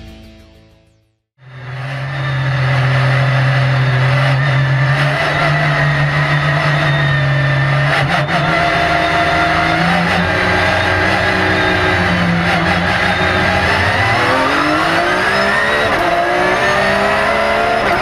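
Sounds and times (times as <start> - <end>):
race car engine from cockpit: 1.4 - 18.0.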